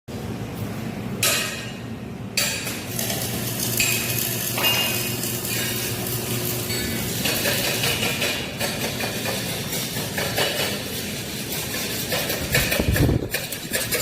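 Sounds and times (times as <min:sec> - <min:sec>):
steady low hum: 0:00.1 - 0:14.0
metal clanking and scraping: 0:02.4 - 0:14.0.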